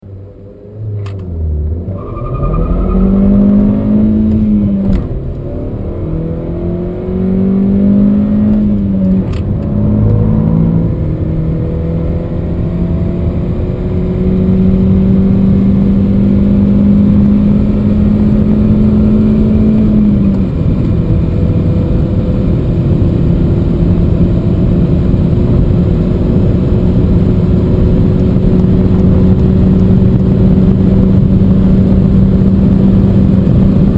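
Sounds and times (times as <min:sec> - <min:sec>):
car engine accelerating through gears: 0:00.0 - 0:33.9.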